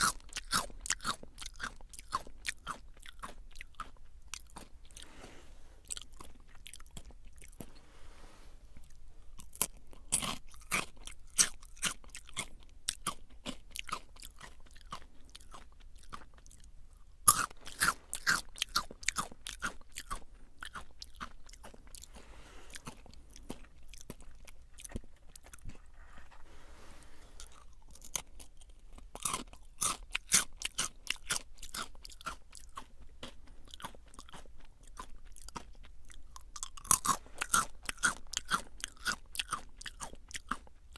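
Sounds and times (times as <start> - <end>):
crunchy snack chewing: 0.0 - 40.9.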